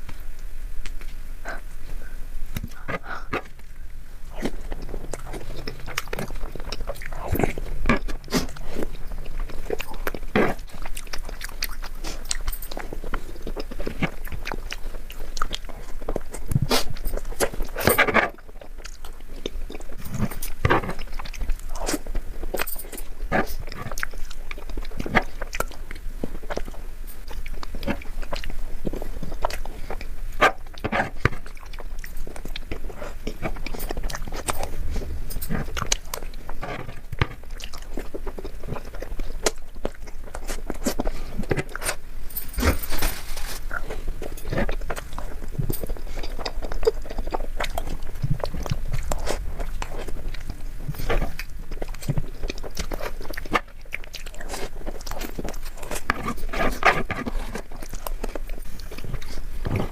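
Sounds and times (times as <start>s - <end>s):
chewing and mouth smacks: 0.0s - 59.9s.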